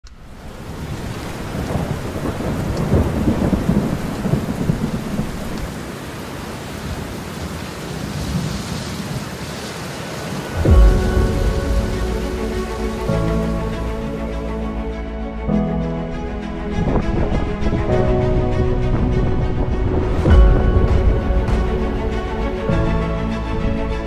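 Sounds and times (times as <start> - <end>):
steady rain: 0.0 - 24.0
thunder rumbling: 0.2 - 6.2, 10.3 - 24.0.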